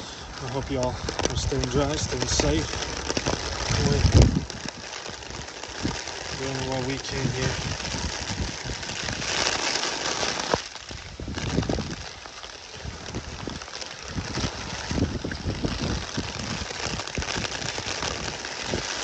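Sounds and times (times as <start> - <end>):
heavy rain pouring: 0.0 - 19.0
wind rumble on microphone: 0.0 - 19.0.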